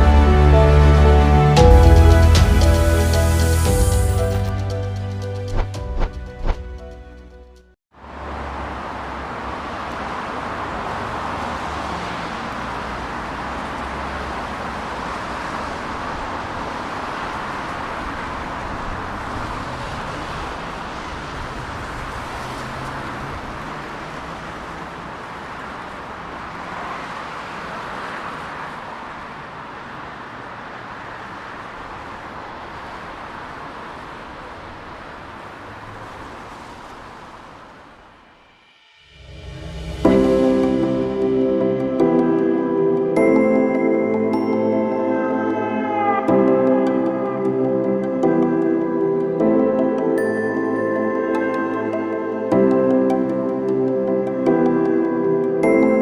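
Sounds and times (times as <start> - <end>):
city traffic noise: 0.0 - 56.0.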